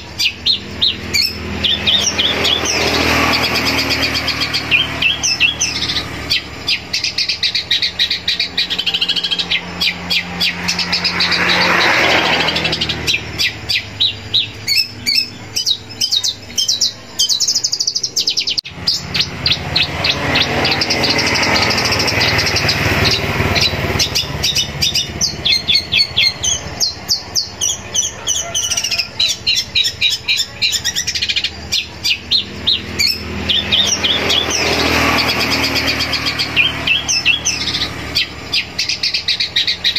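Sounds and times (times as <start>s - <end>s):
bird singing varied chattering song: 0.0s - 39.9s.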